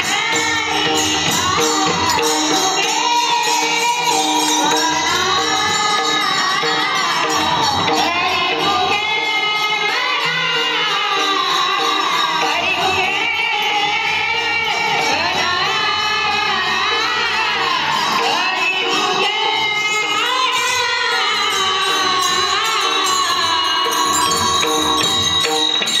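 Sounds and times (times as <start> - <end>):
small hand cymbals jingling: 0.0 - 26.0.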